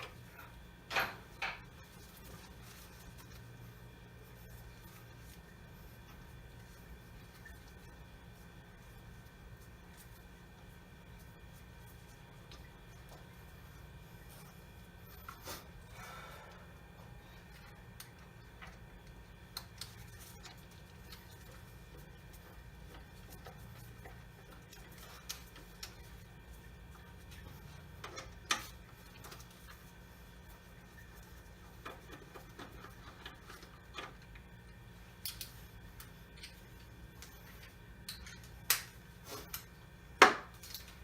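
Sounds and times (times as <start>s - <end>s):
faint low hum: 0.0s - 41.0s.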